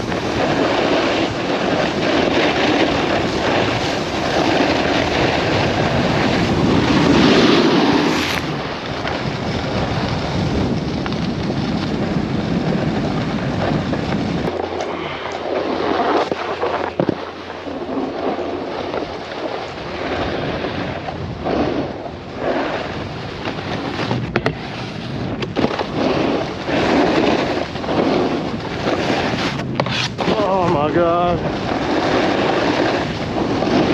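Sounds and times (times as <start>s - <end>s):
snowboard scraping over snow: 0.0s - 33.9s
wind buffeting microphone: 0.0s - 33.9s.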